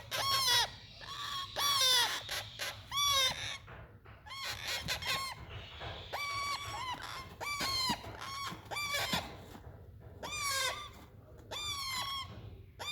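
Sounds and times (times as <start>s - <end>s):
parrot chicks squawking: 0.0s - 9.6s, 10.2s - 12.9s.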